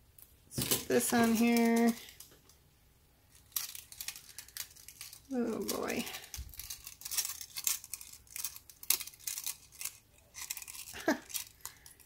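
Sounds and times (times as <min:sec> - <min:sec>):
metal earrings clicking and rattling: 0:00.6 - 0:02.5, 0:03.3 - 0:12.0
plastic crinkling: 0:00.7 - 0:02.6, 0:03.3 - 0:12.0.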